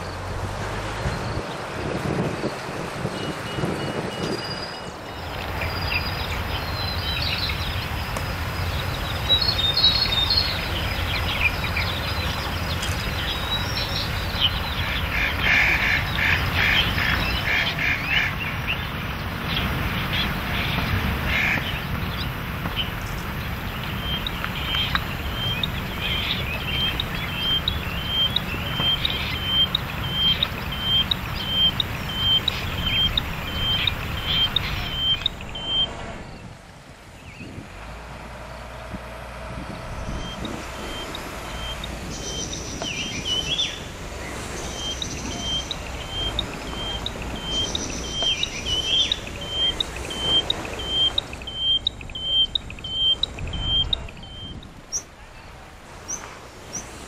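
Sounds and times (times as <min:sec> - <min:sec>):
birds chattering: 0:01.0 - 0:37.5, 0:39.6 - 0:57.0
steady low rumble: 0:05.0 - 0:57.0.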